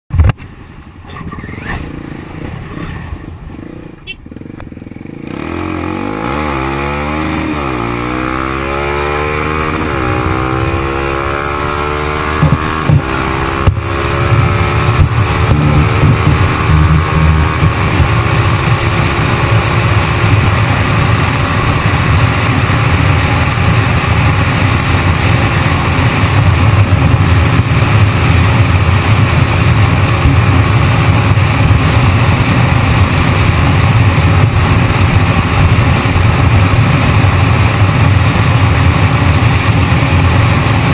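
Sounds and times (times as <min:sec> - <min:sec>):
motorcycle engine revving: 0:01.1 - 0:40.9.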